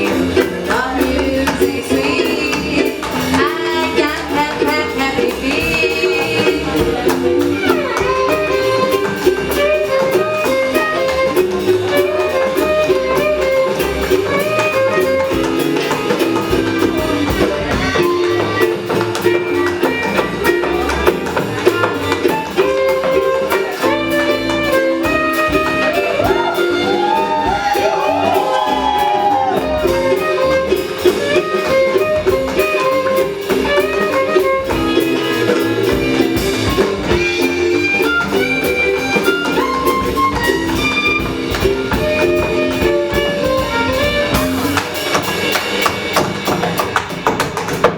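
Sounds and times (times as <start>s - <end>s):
tap shoes clicking: 0.0s - 27.8s, 29.9s - 47.9s
swing jazz band with guitar: 0.0s - 47.9s.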